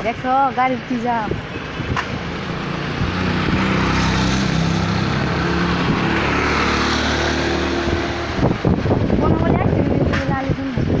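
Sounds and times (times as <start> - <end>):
road and wind noise: 0.0 - 11.0
vehicle engine droning: 0.0 - 11.0.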